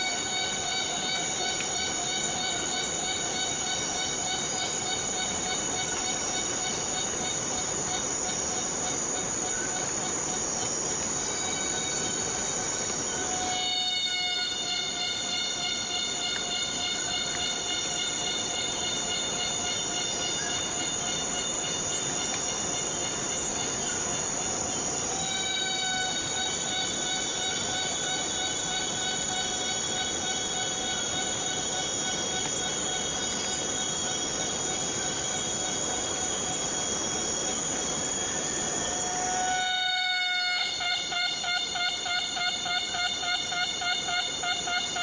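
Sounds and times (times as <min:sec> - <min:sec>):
high insect drone: 0:00.0 - 0:45.0
steady rain hiss: 0:00.0 - 0:45.0.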